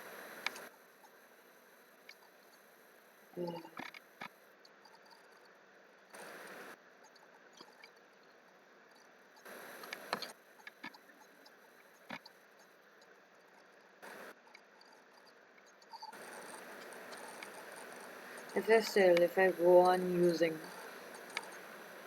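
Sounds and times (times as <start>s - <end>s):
faint room noise: 0.0s - 22.0s.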